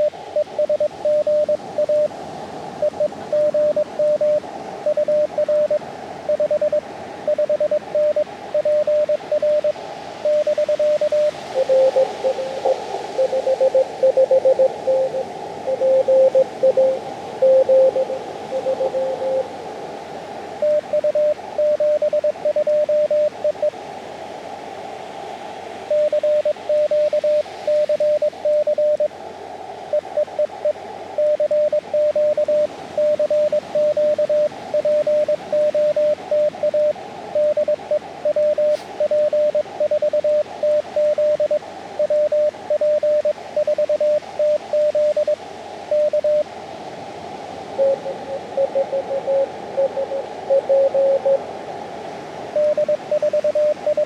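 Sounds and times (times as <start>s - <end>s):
lower morse code tones: 0.0s - 2.1s, 2.8s - 19.5s, 20.6s - 23.7s, 25.9s - 29.2s, 29.9s - 46.5s, 47.7s - 51.5s, 52.6s - 54.0s
morse code tones: 0.0s - 2.1s, 2.8s - 19.5s, 20.6s - 23.7s, 25.9s - 29.1s, 29.9s - 46.4s, 47.8s - 51.4s, 52.6s - 54.0s
radio receiver hiss: 0.0s - 24.0s, 25.8s - 54.0s.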